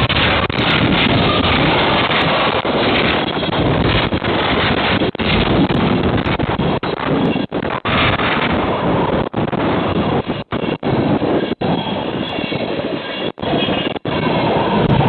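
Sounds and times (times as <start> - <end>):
loud rushing noise: 0.0 - 15.0.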